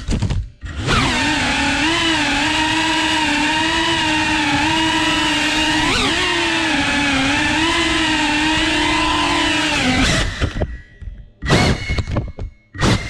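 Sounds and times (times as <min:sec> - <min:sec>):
drone motors buzzing: 0:00.6 - 0:12.1.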